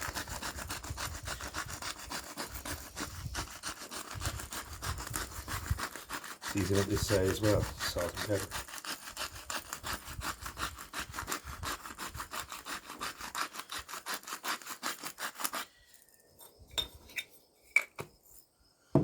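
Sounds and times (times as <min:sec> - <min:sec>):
spice grinder rasping grind: 0:00.0 - 0:16.6.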